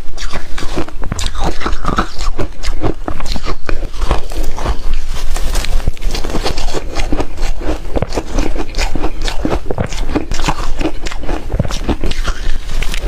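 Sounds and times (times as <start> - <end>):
person crunching hard ice: 0.0 - 13.0.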